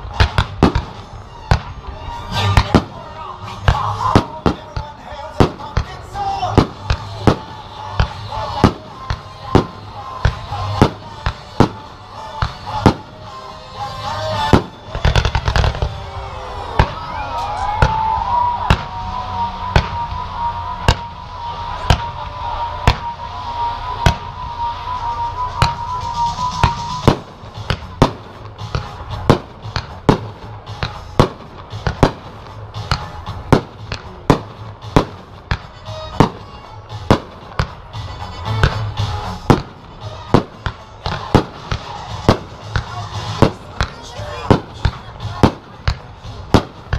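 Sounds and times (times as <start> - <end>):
fireworks bangs: 0.0 - 46.9
music playing: 0.0 - 46.9.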